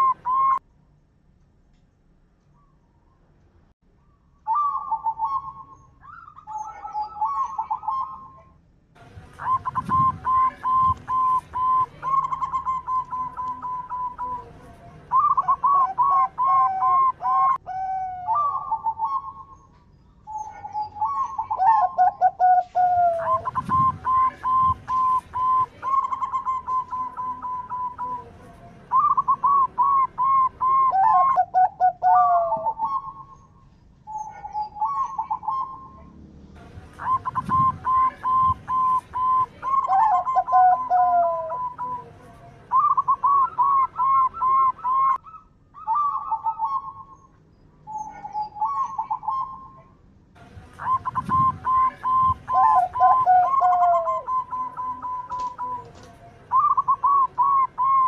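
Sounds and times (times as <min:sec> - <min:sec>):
dove cooing: 0:00.0 - 0:00.6, 0:04.5 - 0:08.5, 0:09.4 - 0:19.7, 0:20.3 - 0:33.5, 0:34.1 - 0:36.1, 0:36.8 - 0:47.3, 0:47.9 - 0:49.9, 0:50.8 - 0:58.0.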